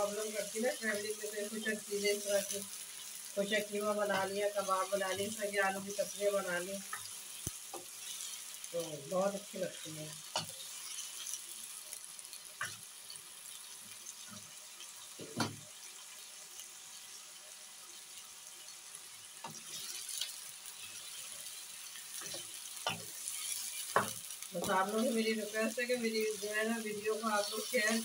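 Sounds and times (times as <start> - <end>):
potatoes sizzling in oil: 0.0 - 28.0.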